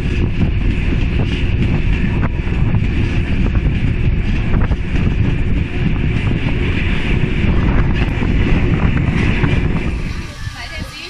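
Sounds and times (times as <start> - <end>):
train coach rumble: 0.0 - 11.0
wind buffeting microphone: 0.0 - 11.0.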